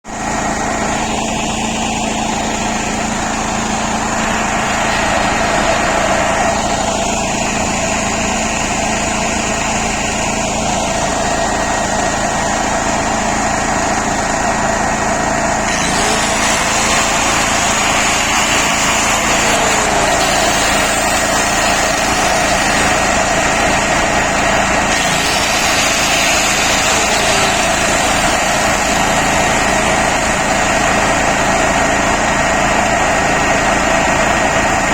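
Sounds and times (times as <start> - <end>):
petrol generator running: 0.0 - 34.9
angle grinder motor whine: 0.1 - 34.9.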